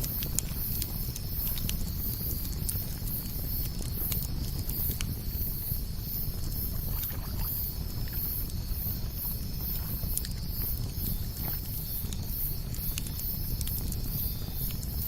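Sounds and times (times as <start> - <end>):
campfire crackling and popping: 0.0 - 15.0
low rumble of wind or water: 0.0 - 15.0.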